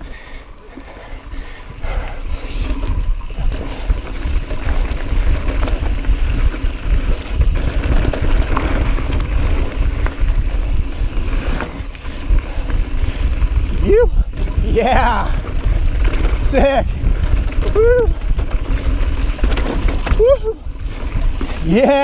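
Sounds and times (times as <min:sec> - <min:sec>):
bike clicks and rattles: 0:00.0 - 0:22.0
tyres rolling over loose dirt: 0:00.0 - 0:22.0
wind buffeting microphone: 0:01.3 - 0:22.0.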